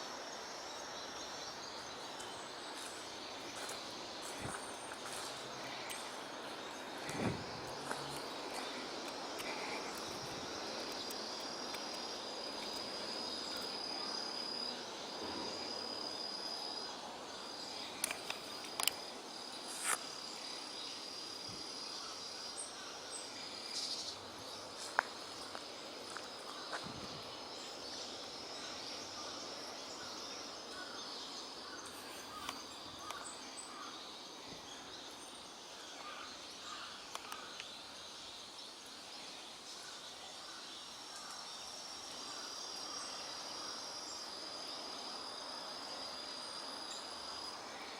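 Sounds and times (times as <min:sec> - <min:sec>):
background hiss: 0:00.0 - 0:47.9
high-pitched insect trill: 0:00.0 - 0:47.9.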